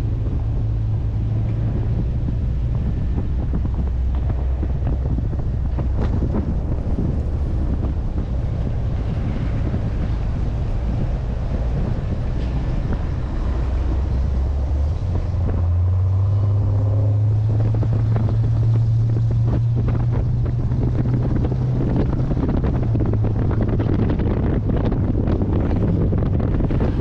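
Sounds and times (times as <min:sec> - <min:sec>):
car engine running: 0:00.0 - 0:27.0
wind buffeting microphone: 0:00.0 - 0:27.0.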